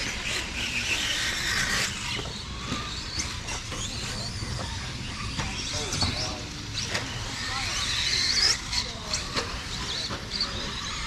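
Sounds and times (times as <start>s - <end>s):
electric motors whining: 0.0s - 11.0s
toy trucks clicking and knocking: 0.0s - 11.0s.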